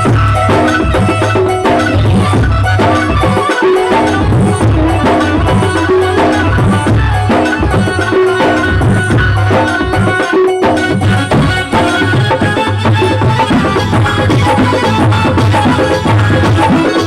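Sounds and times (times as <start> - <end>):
hand drum and percussion: 0.0 - 17.0
melody instrument: 0.0 - 17.0.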